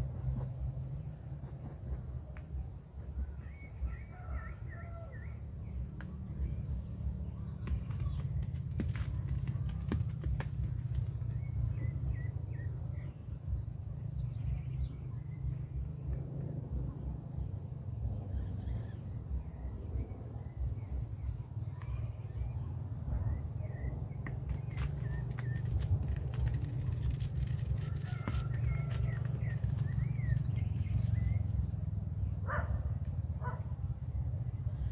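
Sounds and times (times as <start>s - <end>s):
insect trill: 0.0s - 34.9s.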